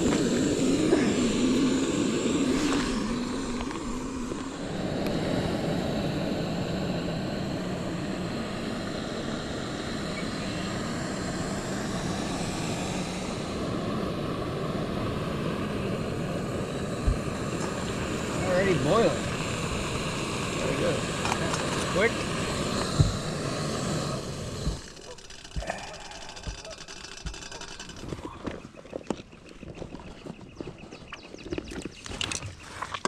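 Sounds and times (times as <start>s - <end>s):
camp stove burner running: 0.0s - 28.6s.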